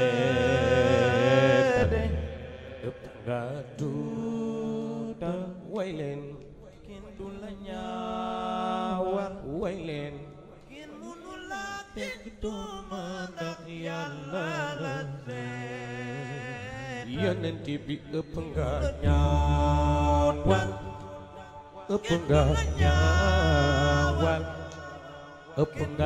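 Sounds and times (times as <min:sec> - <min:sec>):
person chanting devotional verses: 0:00.0 - 0:26.0.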